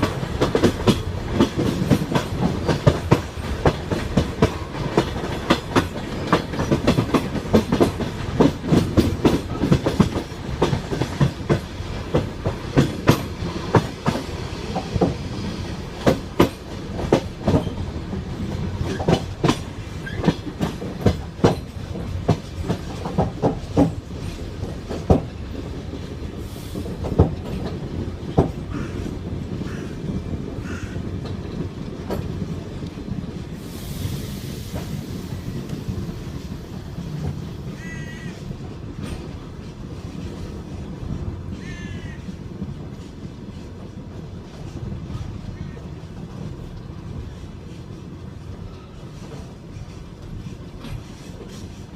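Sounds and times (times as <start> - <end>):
train running rumble: 0.0 - 51.9
train wheels clacking over rail joints: 0.0 - 51.9.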